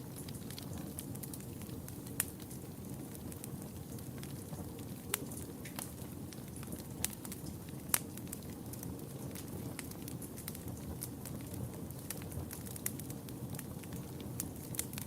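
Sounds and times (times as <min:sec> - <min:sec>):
fire crackles and pops: 0:00.0 - 0:15.0.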